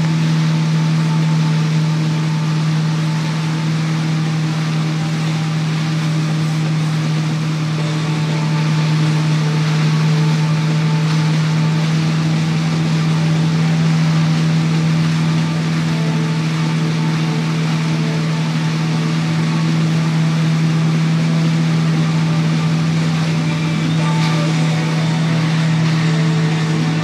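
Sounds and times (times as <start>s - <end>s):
motorboat engine drone: 0.0s - 27.0s.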